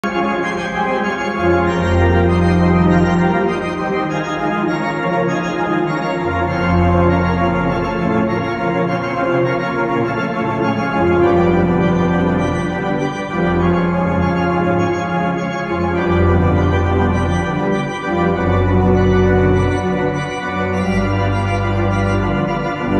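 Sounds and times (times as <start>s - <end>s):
church organ chords: 0.0s - 22.9s.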